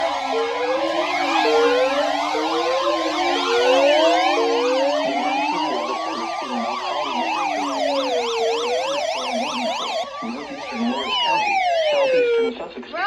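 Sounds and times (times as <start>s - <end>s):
yelping siren: 0.0s - 12.6s
wailing siren: 0.0s - 12.8s.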